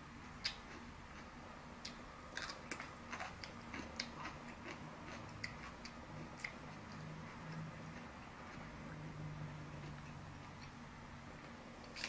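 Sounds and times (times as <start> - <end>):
close-up chewing with crunches: 0.2 - 10.8.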